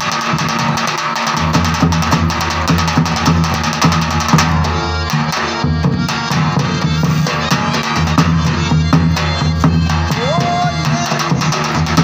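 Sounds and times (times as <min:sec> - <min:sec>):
dhol drum beating fast rhythm: 0:00.0 - 0:12.0
folk music: 0:00.0 - 0:12.0.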